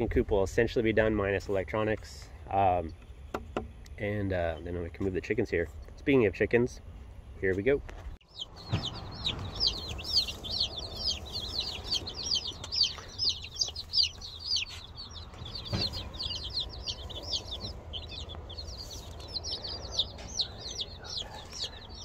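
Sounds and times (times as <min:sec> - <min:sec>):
baby chicks peeping: 0:02.6 - 0:06.8, 0:07.4 - 0:22.0.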